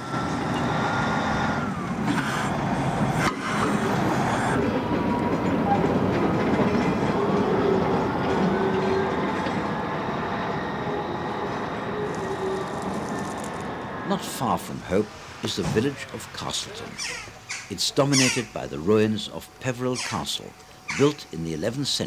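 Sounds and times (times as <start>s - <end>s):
locomotive rumbling: 0.0s - 22.0s.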